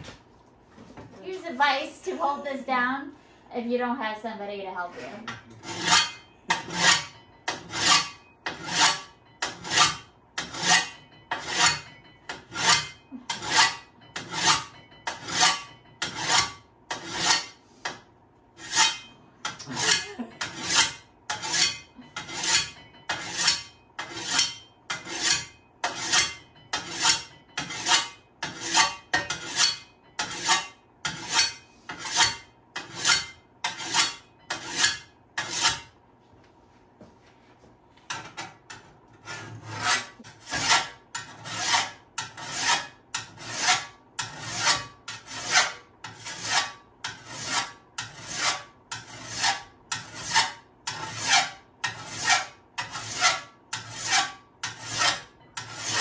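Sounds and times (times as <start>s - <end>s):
file rasping on steel: 5.3s - 18.0s, 18.6s - 36.0s, 38.1s - 56.0s.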